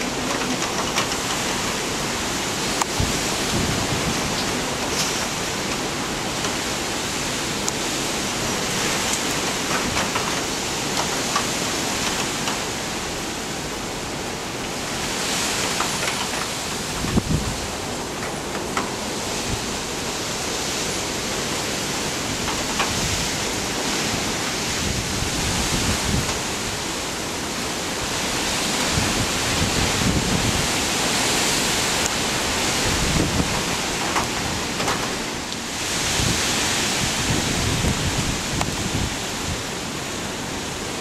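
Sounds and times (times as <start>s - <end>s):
wind gusting against microphone: 0.0s - 41.0s.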